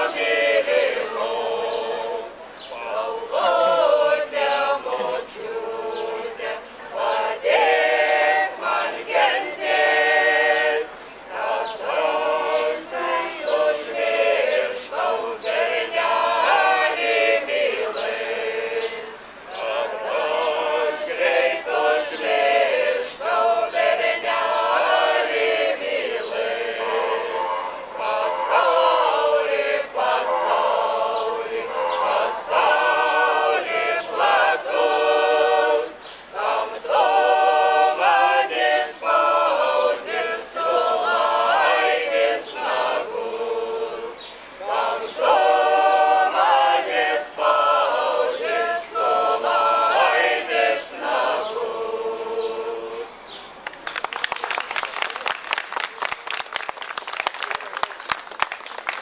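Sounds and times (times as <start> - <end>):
choir singing a cappella: 0.0 - 53.5.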